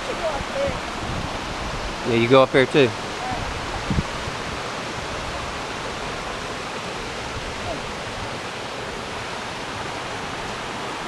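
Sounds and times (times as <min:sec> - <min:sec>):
stream rushing over rock: 0:00.0 - 0:11.0.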